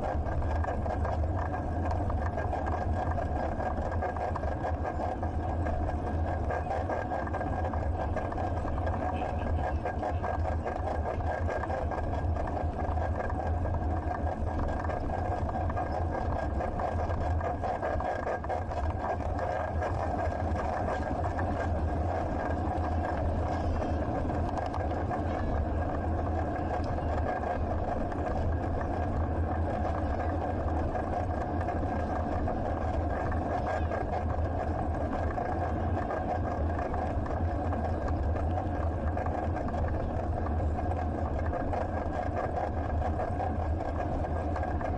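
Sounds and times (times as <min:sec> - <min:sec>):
deep rumble of bicycle riding: 0:00.0 - 0:44.9
faint steady whine: 0:00.0 - 0:44.9.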